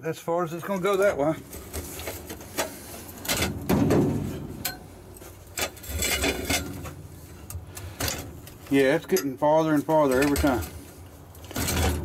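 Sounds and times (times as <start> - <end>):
metal clanks and scraping: 0.8 - 12.0
metal grating: 0.9 - 12.0.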